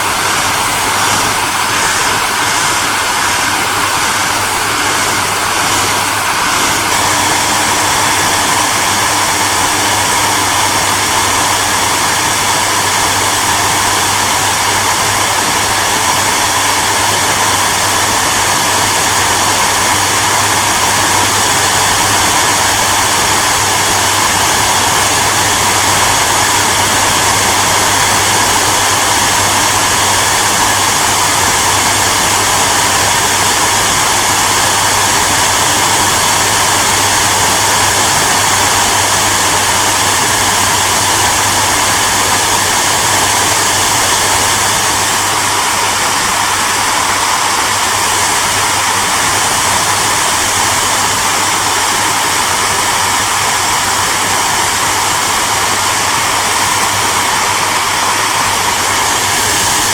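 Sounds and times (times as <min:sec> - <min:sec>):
hair dryer blowing air: 0:00.0 - 0:59.9.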